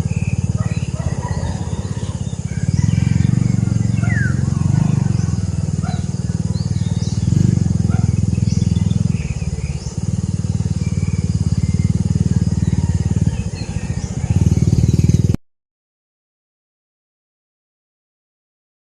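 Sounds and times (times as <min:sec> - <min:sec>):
birds chirping: 0:00.0 - 0:15.4
loud steady low rumble: 0:00.0 - 0:15.4.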